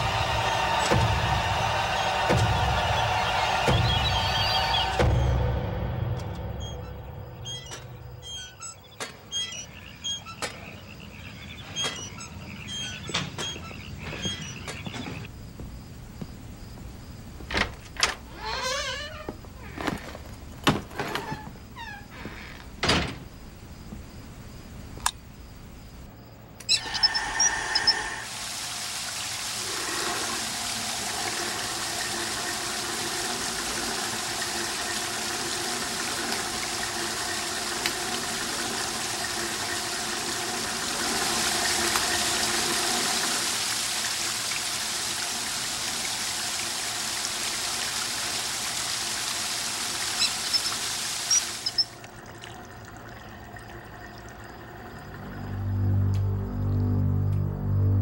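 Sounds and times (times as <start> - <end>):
water running: 0.0 - 25.4, 26.8 - 57.6.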